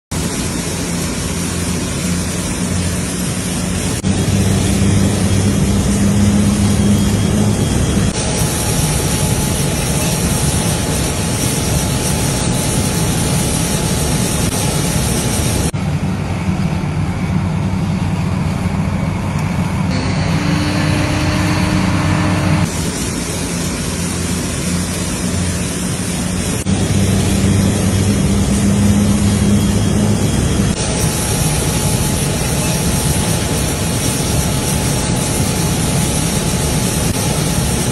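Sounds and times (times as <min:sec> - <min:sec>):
airliner landing rumble: 0:00.1 - 0:37.9.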